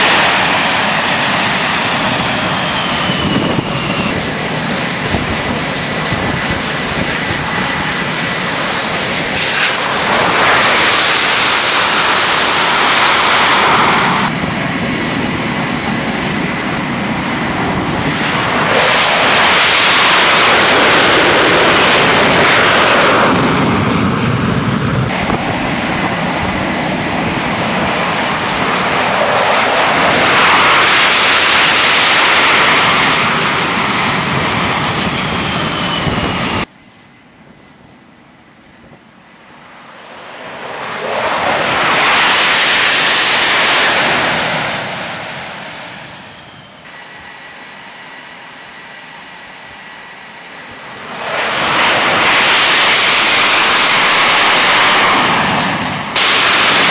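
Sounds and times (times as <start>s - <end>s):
jet passing: 0.0s - 36.7s, 39.1s - 56.9s
high-pitched engine whine: 0.0s - 56.9s
jet engines roaring: 0.0s - 56.9s.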